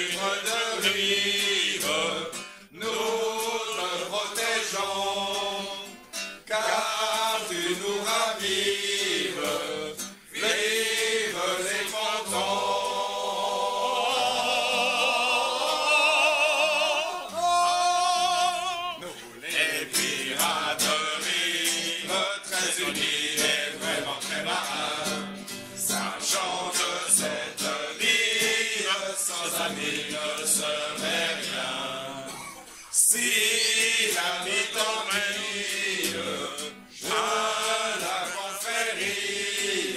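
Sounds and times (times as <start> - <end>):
men singing together: 0.0 - 39.9.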